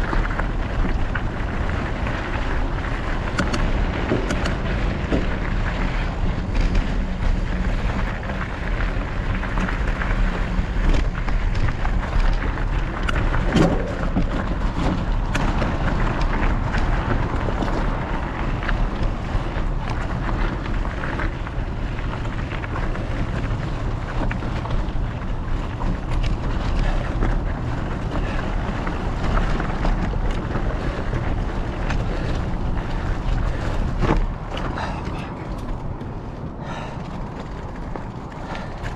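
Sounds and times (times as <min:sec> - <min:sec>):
bike knocks and rattles: 0:00.0 - 0:38.9
tyres crunching over rocky trail: 0:00.0 - 0:38.9
wind buffeting microphone: 0:00.0 - 0:38.9.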